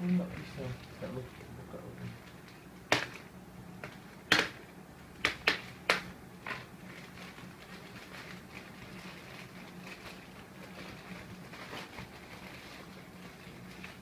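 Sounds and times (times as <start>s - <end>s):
plastic bag crackling: 0.0s - 14.0s.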